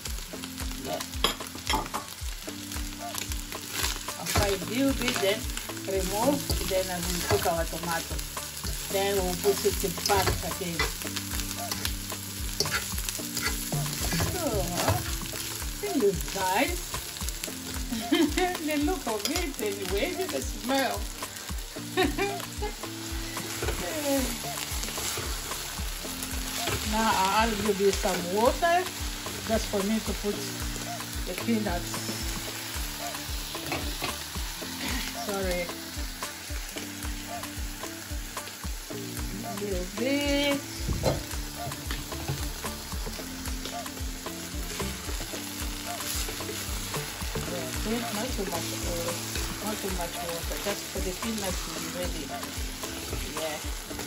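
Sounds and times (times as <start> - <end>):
afrobeat music: 0.0 - 54.0
food sizzling in oil: 0.0 - 54.0
wooden spoon stirring in pan: 3.1 - 35.6, 40.0 - 54.0.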